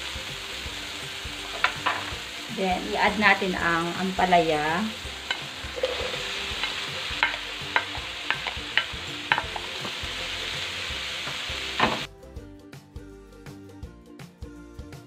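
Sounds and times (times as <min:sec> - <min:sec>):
vegetables sizzling in hot oil: 0:00.0 - 0:12.1
quiet background music: 0:00.0 - 0:15.0.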